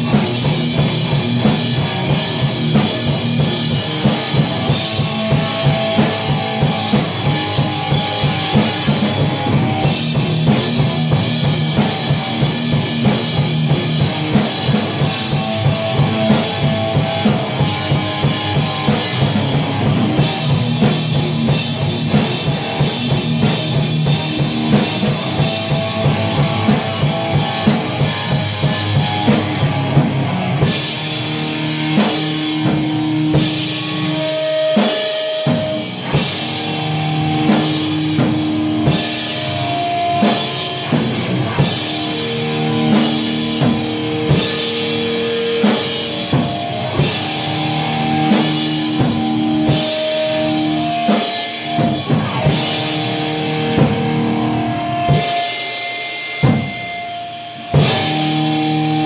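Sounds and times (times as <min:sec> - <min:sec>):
electric guitar held notes: 0:00.0 - 0:59.0
metal drumming: 0:00.0 - 0:59.0.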